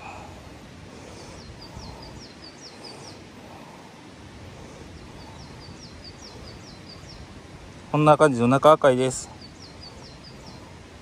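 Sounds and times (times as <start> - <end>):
songbird singing: 0.0 - 11.0
stream rushing: 0.0 - 11.0.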